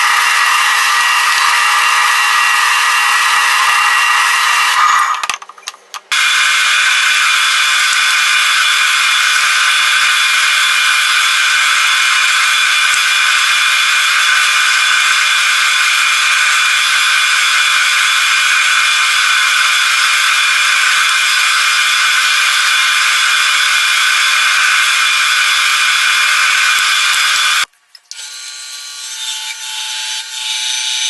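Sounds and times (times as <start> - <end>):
drill press whine: 0.0 - 5.4, 6.1 - 31.0.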